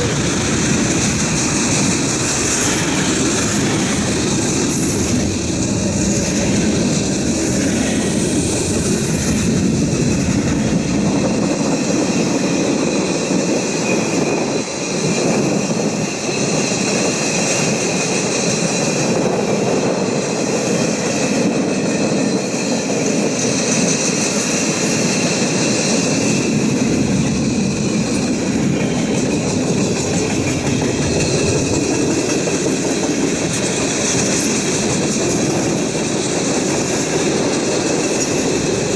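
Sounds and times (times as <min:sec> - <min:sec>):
freight train rumbling past: 0:00.0 - 0:38.9
high whine of wheels on rails: 0:00.0 - 0:38.9.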